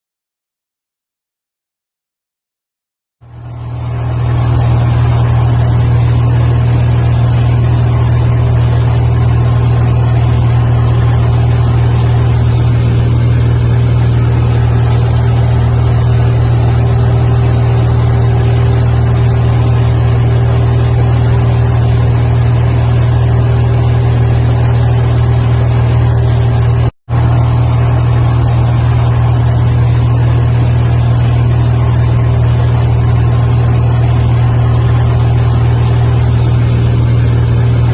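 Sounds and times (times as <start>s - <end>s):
airliner engine drone: 3.2s - 37.9s.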